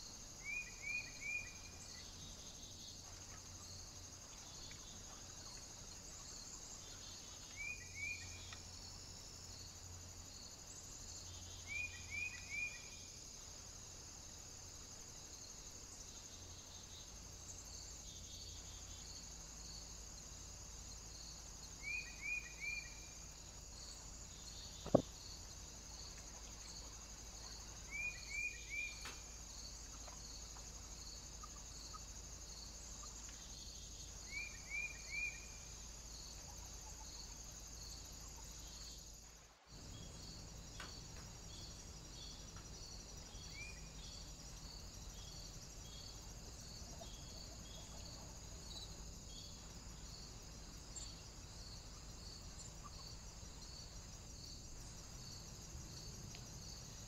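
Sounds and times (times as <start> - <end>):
insects chirping rhythmically: 0.0 - 57.0.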